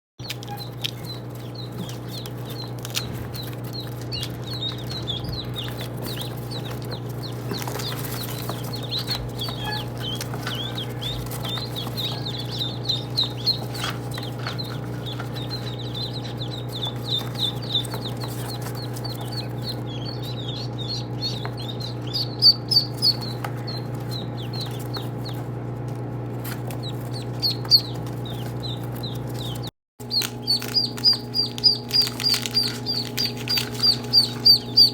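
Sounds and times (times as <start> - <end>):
ducklings peeping: 0.2 - 34.9
steady low hum: 0.2 - 34.9.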